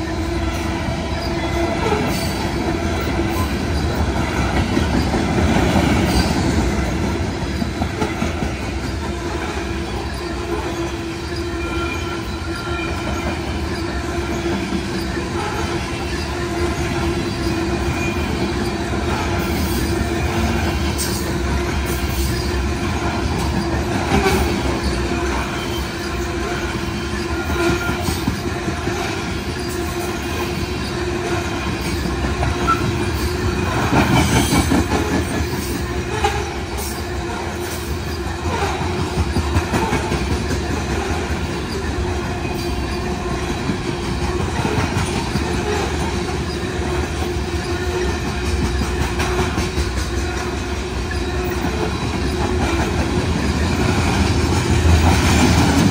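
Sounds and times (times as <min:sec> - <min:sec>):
train wheels clattering over rail joints: 0:00.0 - 0:55.9.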